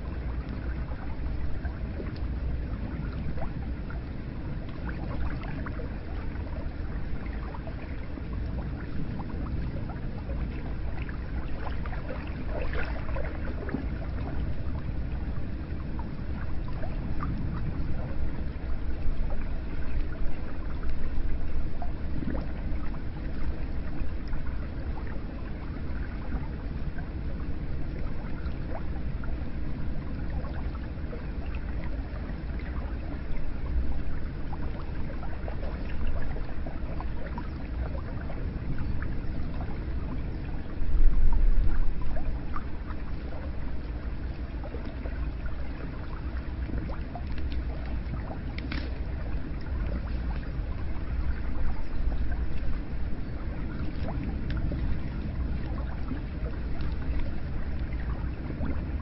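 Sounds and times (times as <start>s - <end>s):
water pouring and trickling: 0.0s - 59.0s.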